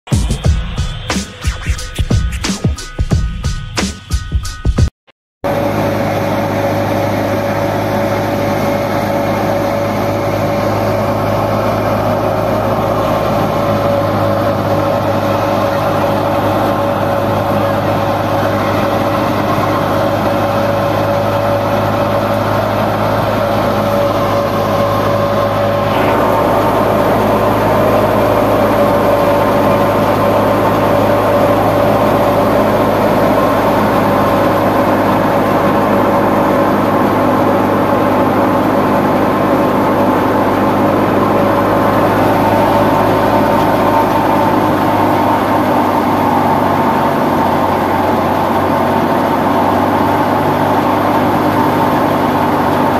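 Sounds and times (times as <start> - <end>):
machine whine: 0.1 - 52.9
thresher machine drone: 0.1 - 52.9.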